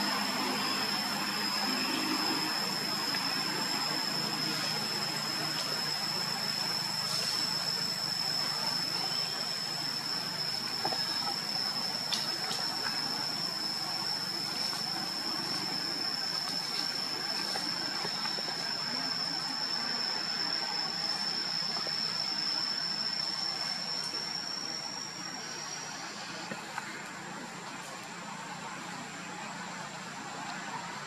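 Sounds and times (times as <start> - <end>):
insect drone: 0.0 - 31.0.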